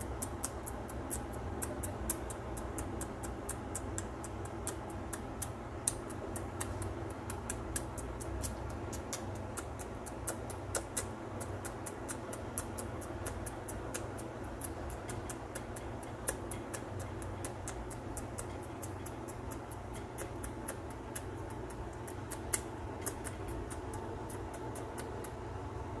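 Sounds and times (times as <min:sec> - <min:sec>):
fast light ticking clicks: 0:00.0 - 0:25.6
steady low hum: 0:00.0 - 0:26.0.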